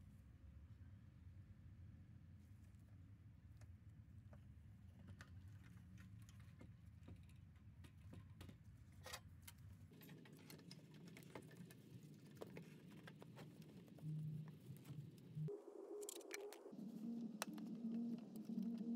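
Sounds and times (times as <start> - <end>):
faint low hum: 0.0 - 18.9.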